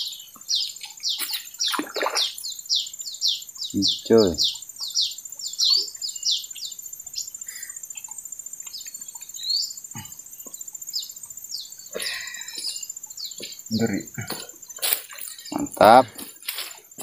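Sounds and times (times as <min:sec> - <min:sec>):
birds chirping: 0:00.0 - 0:17.0
high insect buzz: 0:00.0 - 0:17.0.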